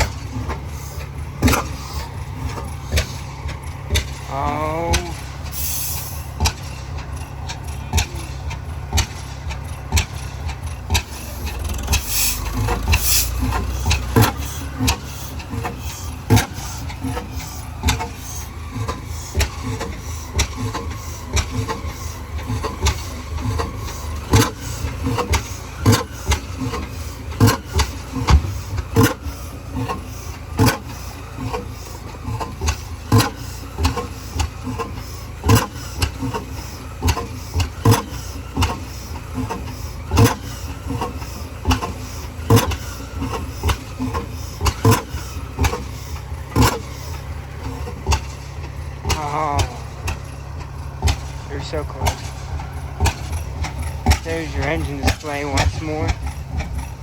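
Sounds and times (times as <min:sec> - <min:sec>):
old engine firing pops: 0:00.0 - 0:04.3, 0:04.9 - 0:57.0
engine low rumble: 0:00.0 - 0:57.0.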